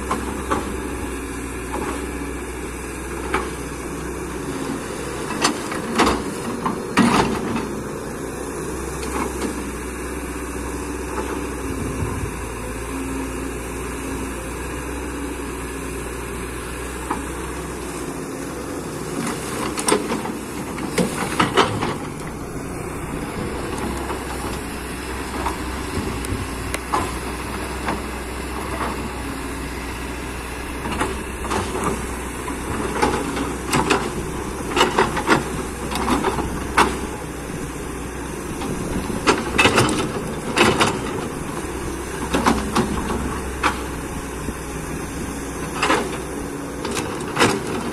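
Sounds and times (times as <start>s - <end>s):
excavator engine running: 0.0s - 47.9s.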